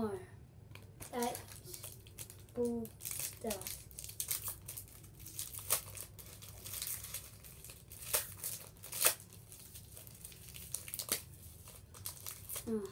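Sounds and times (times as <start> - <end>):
wrapper crinkling and tearing: 0.7 - 12.9.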